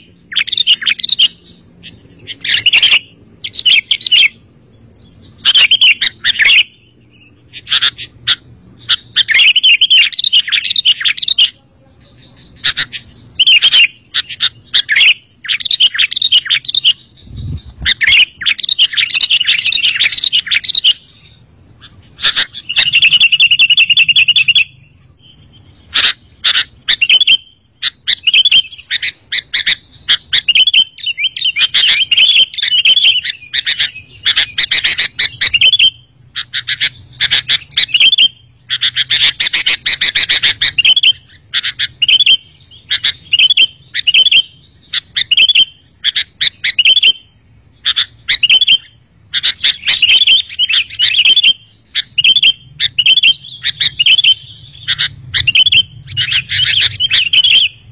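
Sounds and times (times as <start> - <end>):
bird singing and chattering: 0.0 - 57.9.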